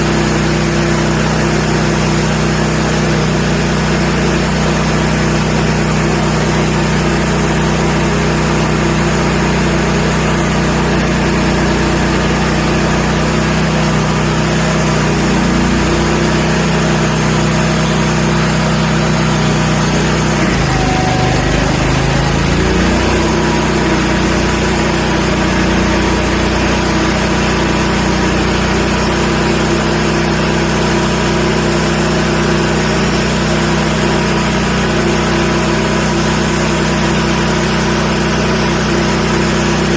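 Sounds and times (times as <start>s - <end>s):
bandsaw sawmill running: 0.0s - 39.9s.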